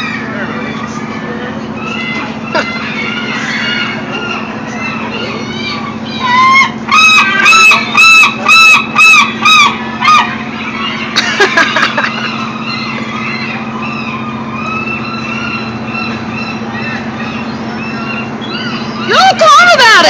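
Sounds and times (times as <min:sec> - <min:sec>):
gull calling: 0:00.0 - 0:20.0.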